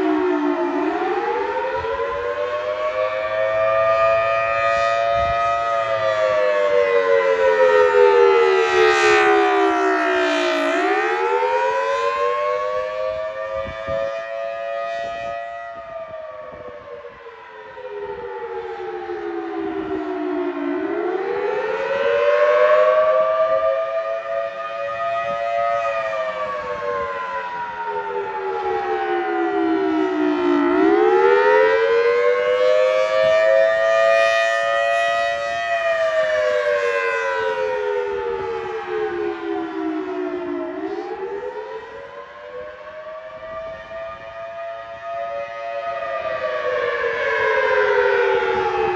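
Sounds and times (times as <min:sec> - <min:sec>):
warning siren wailing: 0:00.0 - 0:48.9.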